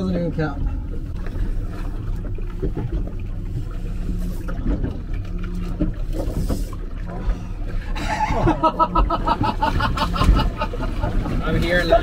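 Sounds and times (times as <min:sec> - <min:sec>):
boat engine idling: 0:00.0 - 0:12.0
water noise: 0:00.0 - 0:12.0.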